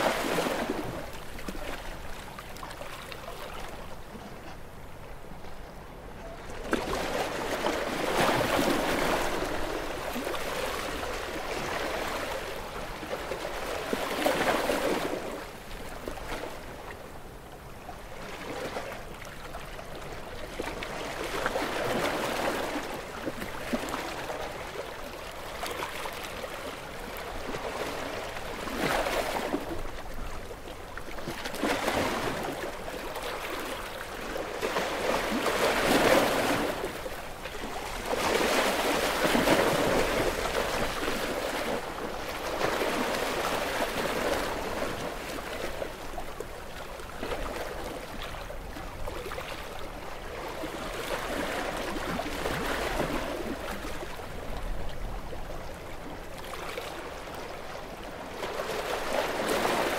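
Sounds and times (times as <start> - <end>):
small ocean waves lapping: 0.0 - 59.9.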